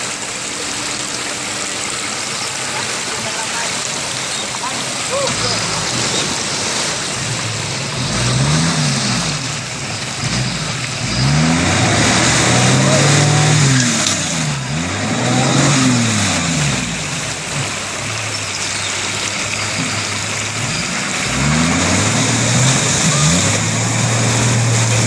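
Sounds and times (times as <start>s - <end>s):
stream rushing: 0.0s - 25.0s
wheels splashing through water: 0.0s - 25.0s
off-road vehicle engine revving: 4.3s - 25.0s.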